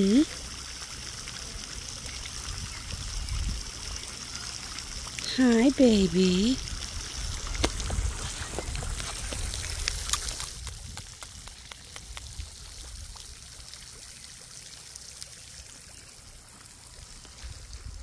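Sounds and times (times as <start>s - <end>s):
hiss like trickling water: 0.0s - 18.0s.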